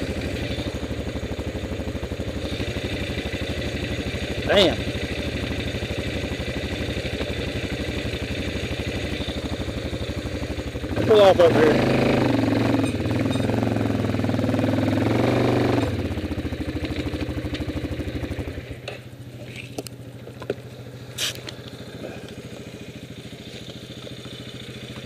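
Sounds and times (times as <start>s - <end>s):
quad engine revving and idling: 0.0s - 25.0s.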